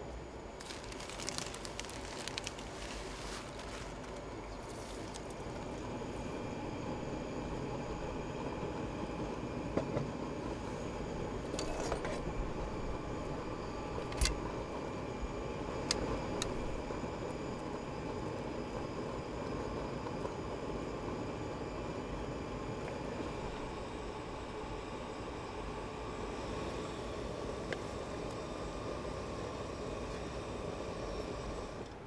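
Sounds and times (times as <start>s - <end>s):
camp stove hissing: 0.0s - 32.0s.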